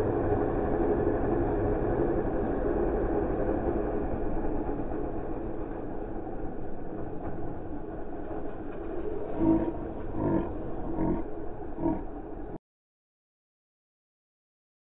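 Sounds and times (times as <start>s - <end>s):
slowed dirt bike engine roar: 0.0s - 12.6s.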